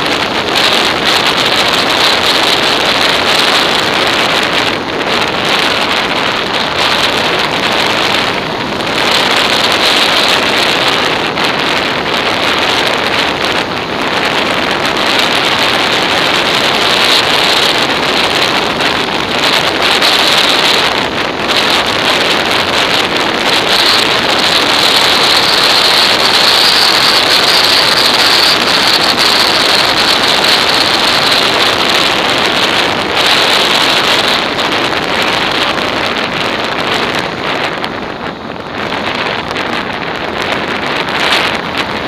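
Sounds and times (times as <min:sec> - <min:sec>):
road noise: 0:00.0 - 0:42.0
wind buffeting microphone: 0:00.0 - 0:42.0.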